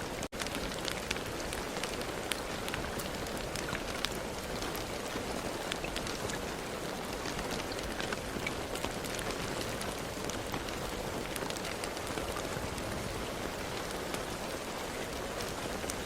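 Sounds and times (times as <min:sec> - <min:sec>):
raindrops ticking on a surface: 0:00.0 - 0:16.0
steady rain hiss: 0:00.0 - 0:16.0.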